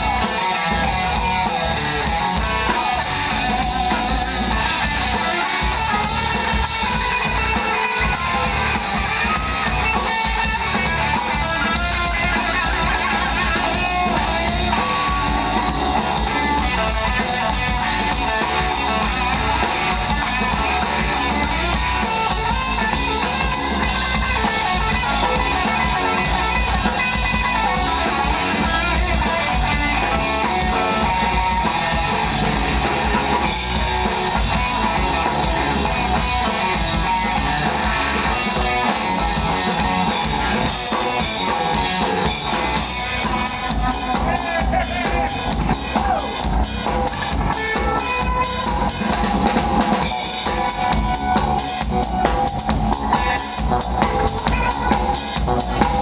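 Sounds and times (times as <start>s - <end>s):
distorted electric guitar: 0.0s - 56.0s
drum kit: 0.0s - 56.0s
electric bass: 0.0s - 56.0s.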